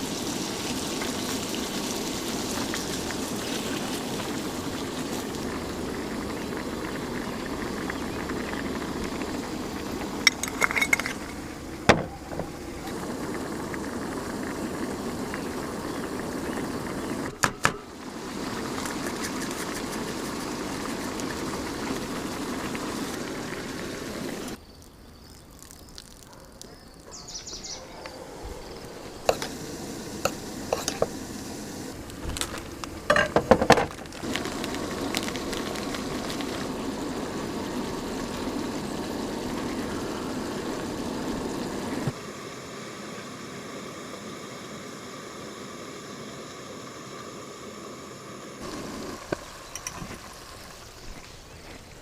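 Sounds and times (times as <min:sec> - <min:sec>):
food sizzling in a pan: 0:00.0 - 0:24.6, 0:28.6 - 0:52.0.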